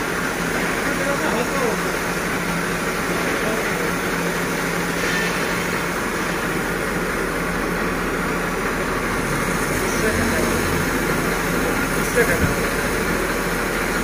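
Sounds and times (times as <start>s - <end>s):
engine and pump hum: 0.0s - 14.0s
high-pressure water jet hissing: 0.1s - 6.9s, 8.3s - 14.0s.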